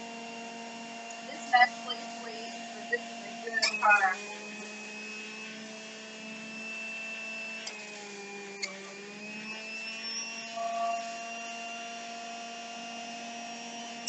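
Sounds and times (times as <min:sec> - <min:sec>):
electric juicer motor whining: 0:00.0 - 0:14.0.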